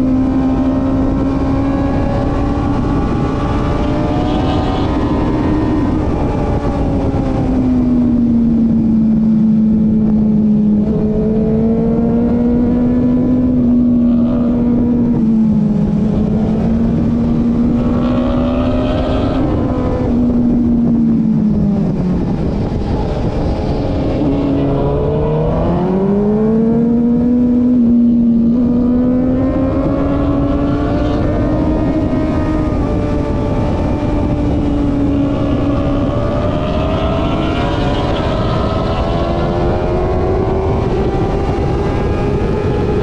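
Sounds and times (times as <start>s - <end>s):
motorcycle engine revving: 0.0s - 43.0s
wind rushing over microphone: 0.0s - 43.0s.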